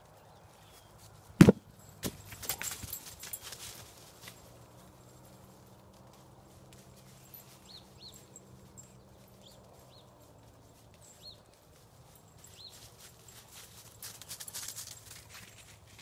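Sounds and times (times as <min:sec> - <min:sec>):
paws crunching on leaves: 0:00.0 - 0:16.0.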